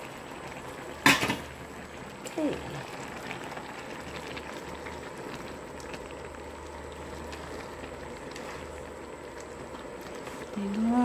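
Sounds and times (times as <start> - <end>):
water boiling and bubbling: 0.0 - 11.0.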